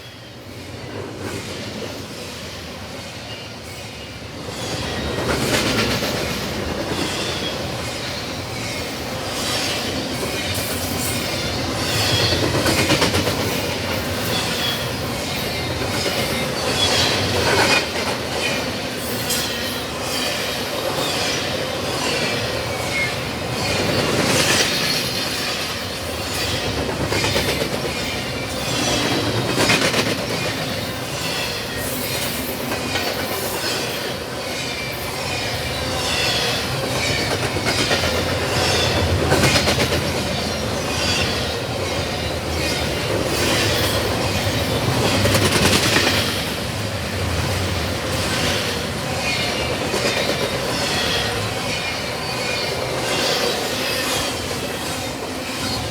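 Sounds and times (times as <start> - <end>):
wheels clacking over rail joints: 4.6 - 54.4.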